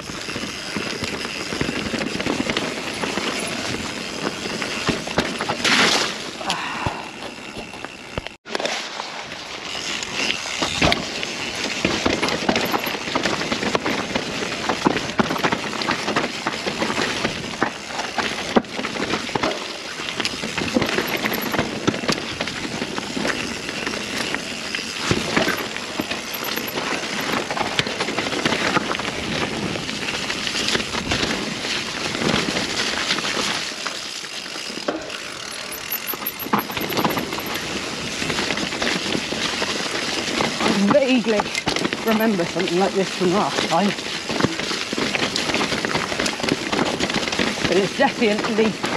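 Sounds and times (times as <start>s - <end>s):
bike knocking and rattling: 0.0s - 48.9s
bike tyres on dirt and stone: 0.0s - 48.9s.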